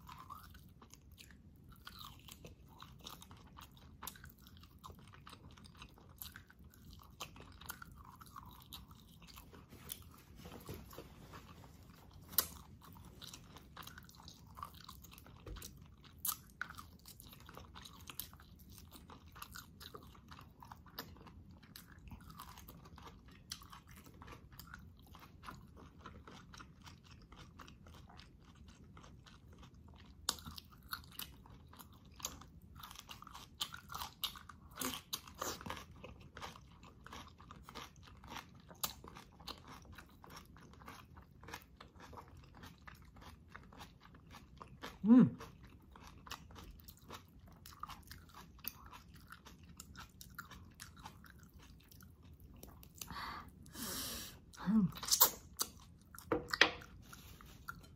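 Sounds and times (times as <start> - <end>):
chewing and biting meat: 0.0 - 53.7.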